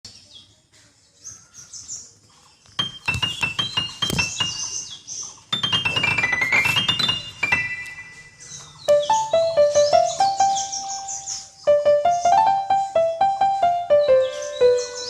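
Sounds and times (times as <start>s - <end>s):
bird chirps: 1.1s - 15.0s
light piano tune: 2.8s - 15.0s.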